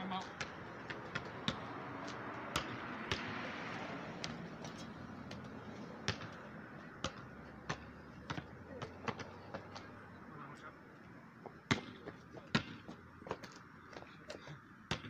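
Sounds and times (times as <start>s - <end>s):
basketball bouncing on pavement: 0.0s - 10.0s, 11.4s - 15.0s.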